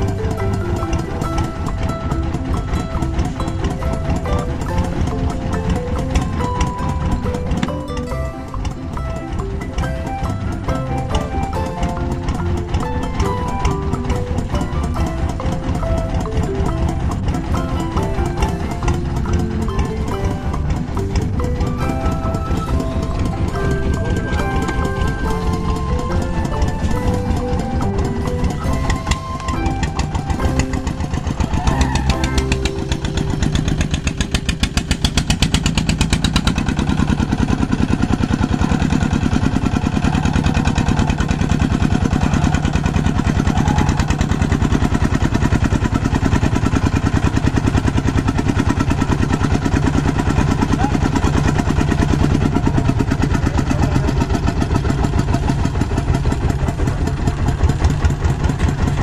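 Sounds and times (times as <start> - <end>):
machine engine chugging: 0.0 - 59.0
music: 0.0 - 59.0.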